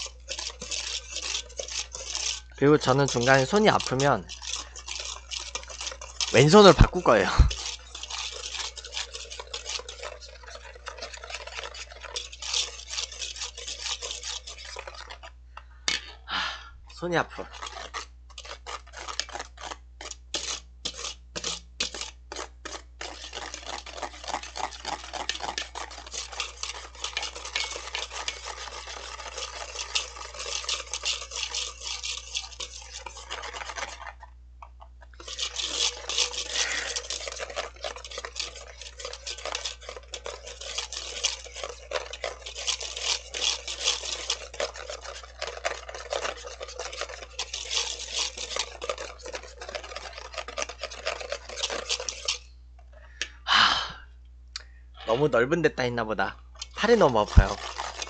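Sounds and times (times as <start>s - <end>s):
whisk scraping metal bowl: 0.0s - 16.2s, 16.9s - 53.2s, 55.0s - 58.0s.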